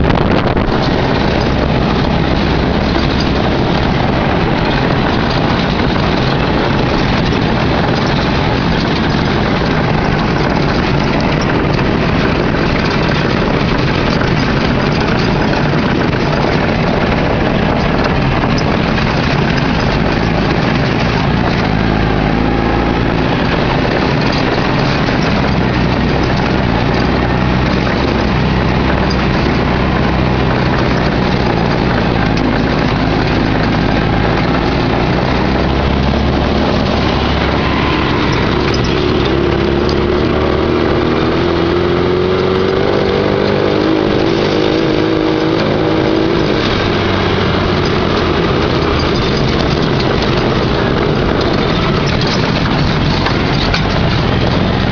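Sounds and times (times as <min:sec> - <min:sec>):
buggy engine running: 0:00.0 - 0:54.9.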